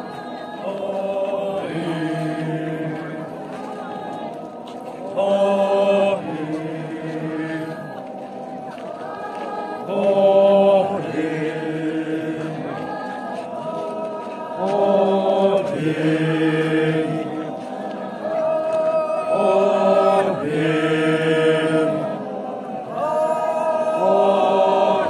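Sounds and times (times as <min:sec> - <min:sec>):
men chanting in unison: 0:00.0 - 0:25.0.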